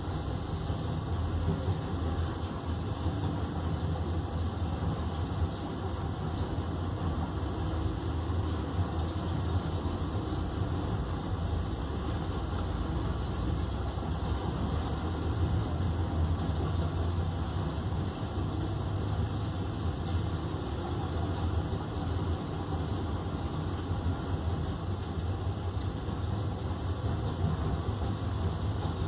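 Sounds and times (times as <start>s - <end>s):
diesel truck engines rumbling: 0.0s - 29.0s.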